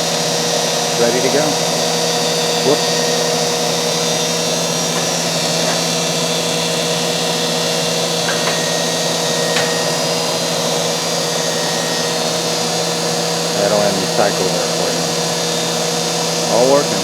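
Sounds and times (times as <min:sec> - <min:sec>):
grinder motor hum and whine: 0:00.0 - 0:17.0.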